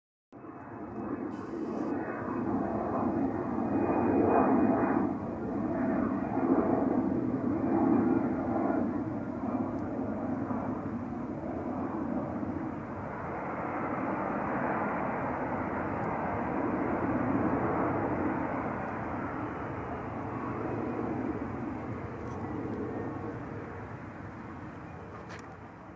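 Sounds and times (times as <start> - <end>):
airplane engines rushing: 0.3 - 25.9.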